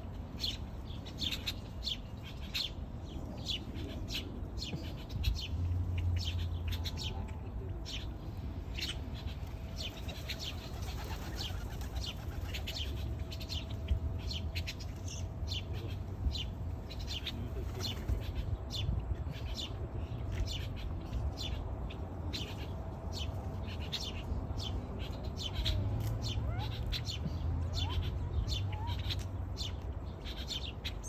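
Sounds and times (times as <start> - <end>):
small birds chirping: 0.4 - 31.0.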